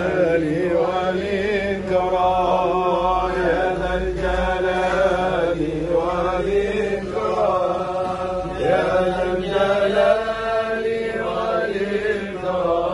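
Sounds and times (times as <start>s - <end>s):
men chanting melodically: 0.0s - 12.9s.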